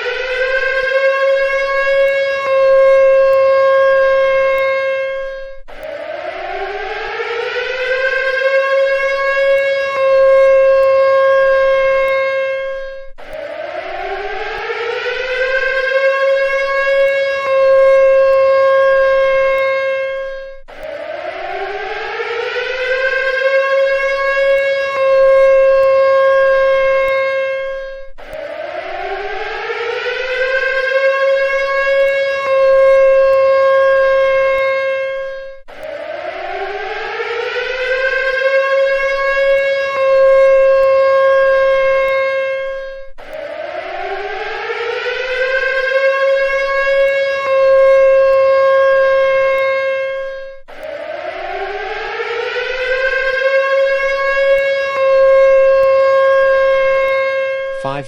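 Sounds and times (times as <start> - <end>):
civil defense siren wailing: 0.0 - 58.0.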